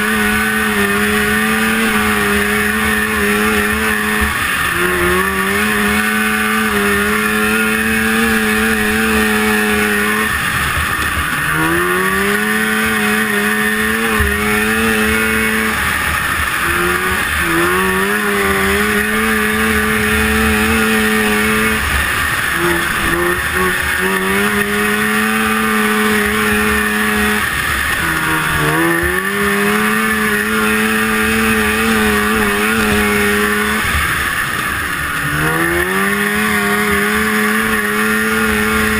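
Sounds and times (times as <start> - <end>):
snowmobile engine running flat out: 0.0 - 38.9
wind and track hiss: 0.0 - 38.9.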